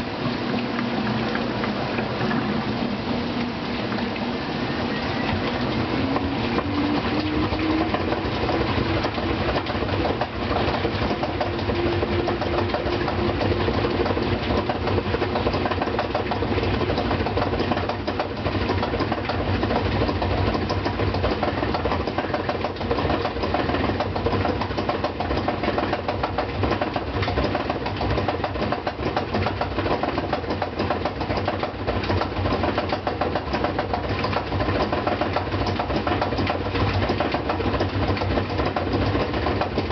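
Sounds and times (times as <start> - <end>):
washing machine motor whine: 0.0 - 39.9
loud rapid knocking: 6.1 - 39.9.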